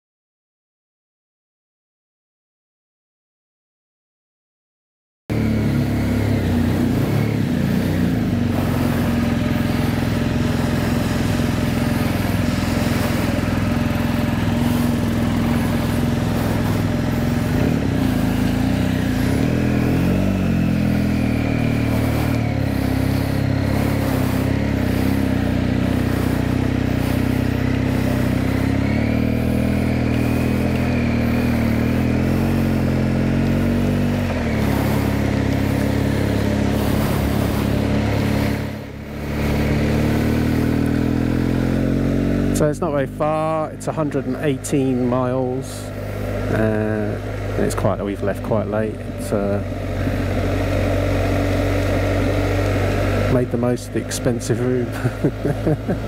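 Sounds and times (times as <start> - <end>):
motorcycle engine running: 5.3 - 56.0.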